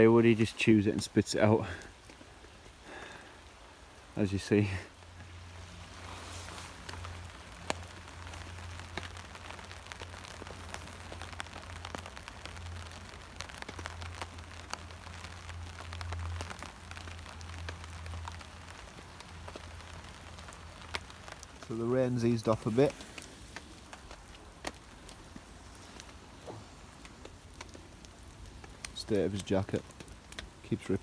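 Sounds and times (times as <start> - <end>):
raindrops tapping on tarp: 0.0 - 31.0
steady rain falling: 0.0 - 31.0.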